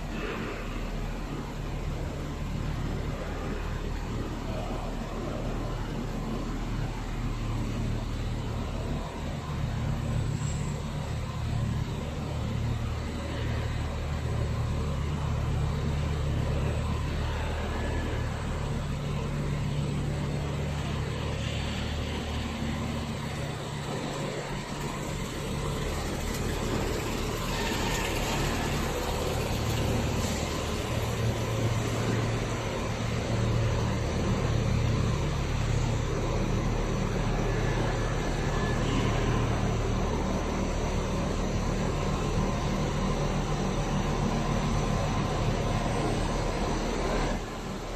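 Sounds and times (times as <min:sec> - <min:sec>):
factory machinery humming: 0:00.0 - 0:47.9.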